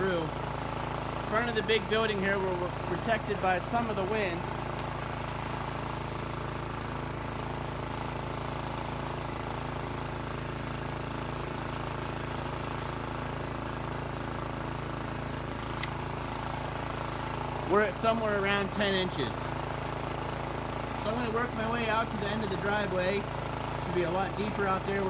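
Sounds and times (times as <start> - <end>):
snowblower engine running: 0.0 - 25.0.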